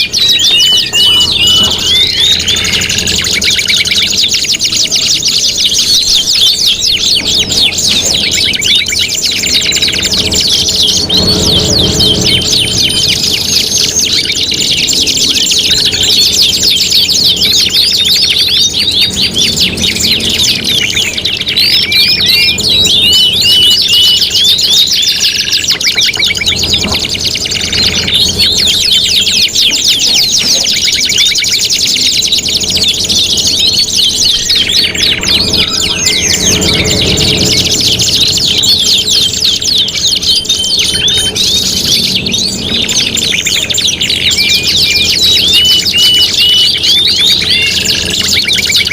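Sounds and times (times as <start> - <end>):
canaries singing trills: 0.0 - 48.9.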